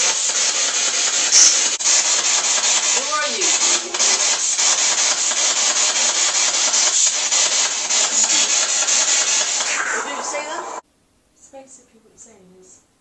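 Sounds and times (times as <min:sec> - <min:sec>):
pulsing radio static: 0:00.0 - 0:10.8.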